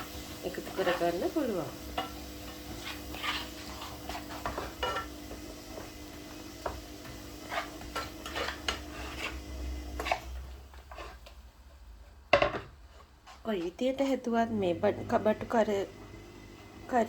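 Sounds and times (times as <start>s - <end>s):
utensil scraping a frying pan: 0.0s - 13.8s.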